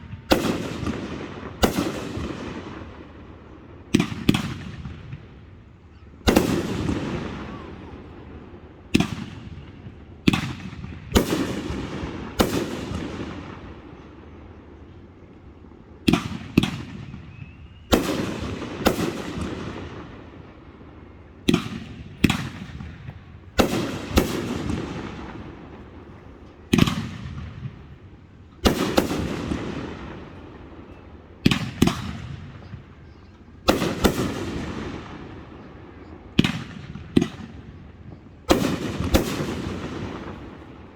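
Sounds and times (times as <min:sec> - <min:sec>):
fireworks bangs with echo: 0:00.0 - 0:03.3, 0:03.9 - 0:05.3, 0:06.3 - 0:14.1, 0:16.0 - 0:20.8, 0:21.4 - 0:40.9.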